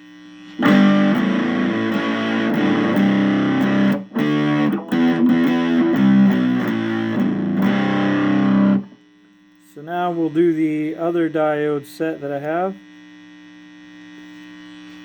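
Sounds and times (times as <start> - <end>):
fuzz-distorted electric guitar: 0.0 - 15.0.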